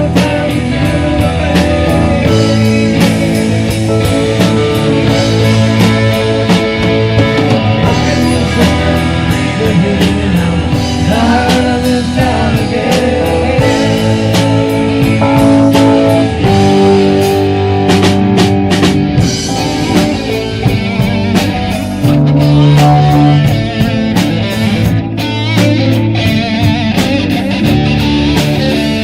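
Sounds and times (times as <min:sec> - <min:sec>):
drum kit beat: 0:00.0 - 0:29.0
electric guitar: 0:00.0 - 0:29.0.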